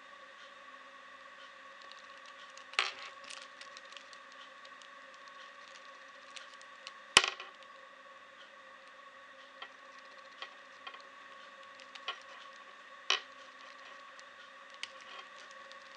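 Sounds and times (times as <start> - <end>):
faint hum: 0.0 - 15.9.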